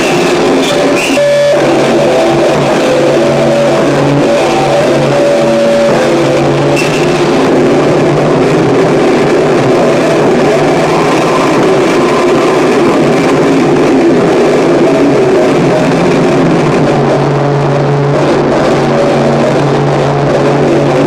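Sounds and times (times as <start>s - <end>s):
droning tones: 0.0s - 21.0s
harsh noise music: 0.0s - 21.0s.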